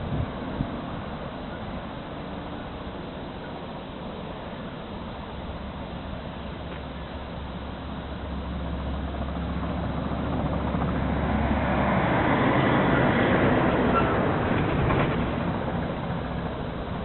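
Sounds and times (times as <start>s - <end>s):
steam locomotive approaching: 0.0s - 17.0s.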